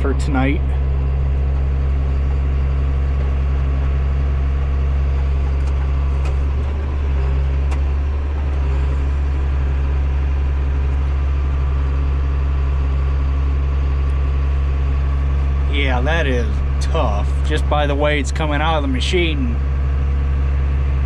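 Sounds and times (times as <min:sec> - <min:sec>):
combine harvester droning: 0:00.0 - 0:21.0.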